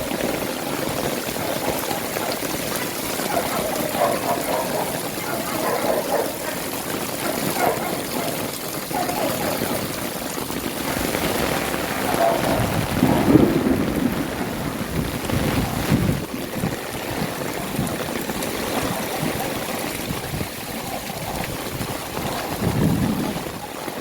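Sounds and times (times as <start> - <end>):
heavy rain falling: 0.0 - 24.0
water running and trickling: 0.0 - 24.0.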